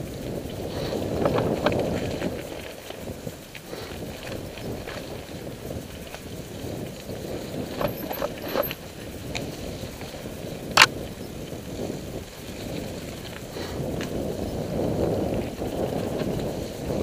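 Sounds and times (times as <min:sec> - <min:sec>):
bike rattling clicks: 0:00.0 - 0:17.0
bike tyres rolling on dirt: 0:00.0 - 0:17.0
wind noise: 0:00.0 - 0:17.0.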